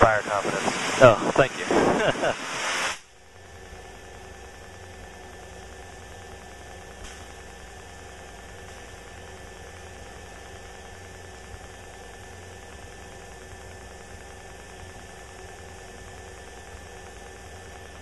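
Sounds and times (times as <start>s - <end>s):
propeller plane cabin drone: 0.0s - 18.0s.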